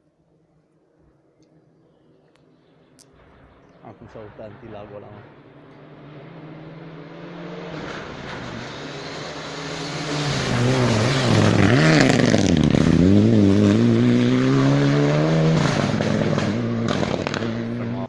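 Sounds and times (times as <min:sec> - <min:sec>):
rally car engine passing: 0:03.1 - 0:18.0.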